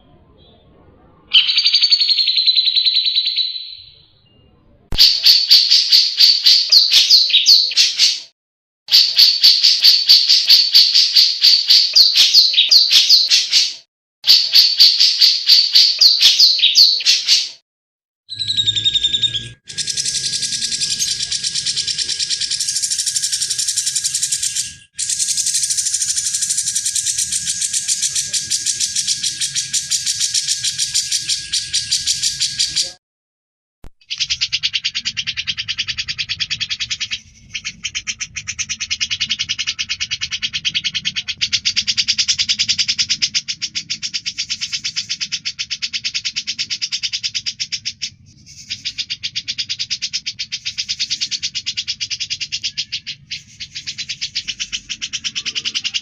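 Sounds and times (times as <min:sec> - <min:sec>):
bird chirping rapidly: 0:01.3 - 0:04.1, 0:04.9 - 0:08.3, 0:08.9 - 0:17.6, 0:18.3 - 0:33.0, 0:34.0 - 0:56.0
bird trilling: 0:01.3 - 0:04.1, 0:04.9 - 0:08.3, 0:08.9 - 0:17.6, 0:18.3 - 0:33.0, 0:34.0 - 0:56.0.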